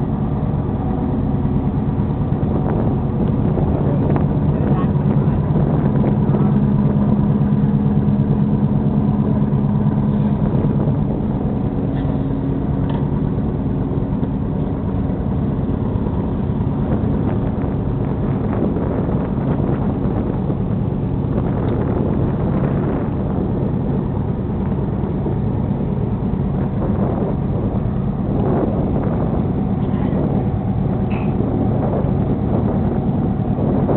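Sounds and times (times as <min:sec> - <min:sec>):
boat engines droning: 0:00.0 - 0:33.9
water rushing: 0:00.0 - 0:33.9.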